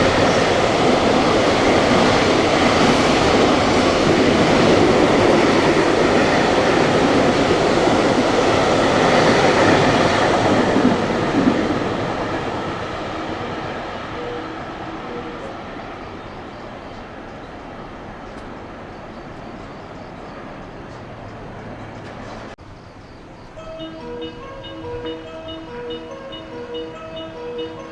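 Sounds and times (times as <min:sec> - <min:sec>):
train passing at speed: 0:00.0 - 0:27.9.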